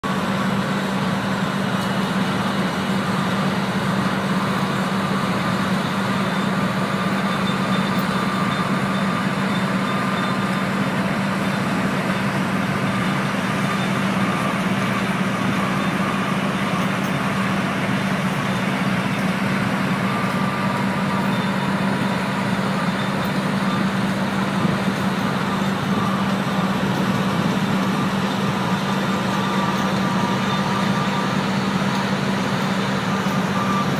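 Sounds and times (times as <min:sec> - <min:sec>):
drilling rig machinery drone: 0:00.0 - 0:33.9.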